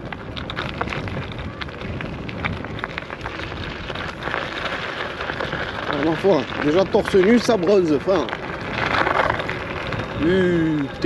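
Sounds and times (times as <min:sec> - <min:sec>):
scooter tyre noise: 0:00.0 - 0:11.0
wind on microphone: 0:00.0 - 0:11.0.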